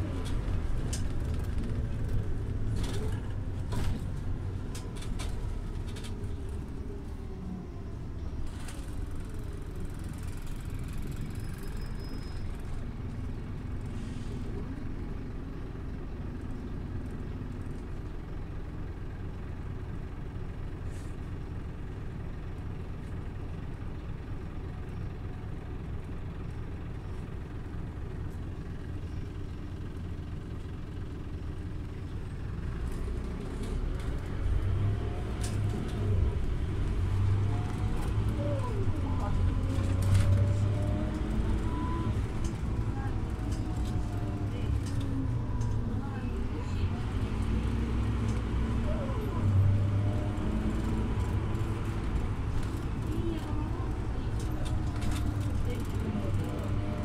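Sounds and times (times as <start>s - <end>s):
bus diesel engine rumble: 0.0s - 57.0s.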